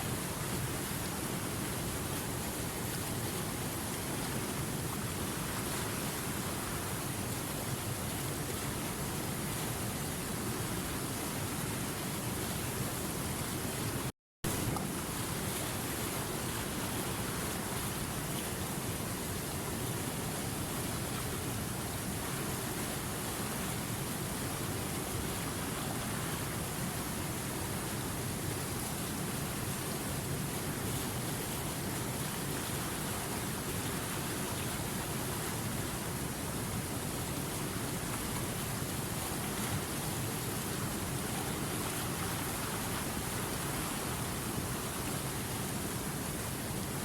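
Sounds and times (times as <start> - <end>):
river water running: 0.0 - 47.0.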